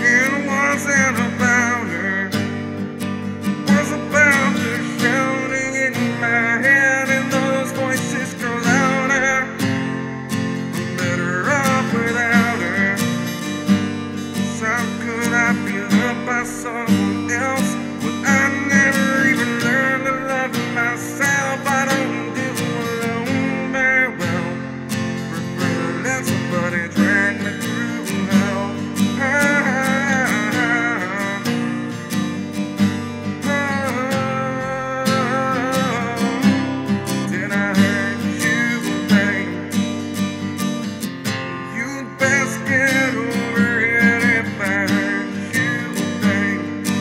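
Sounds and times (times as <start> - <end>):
strummed acoustic guitar: 0.0 - 47.0
wavering guitar melody: 0.0 - 47.0.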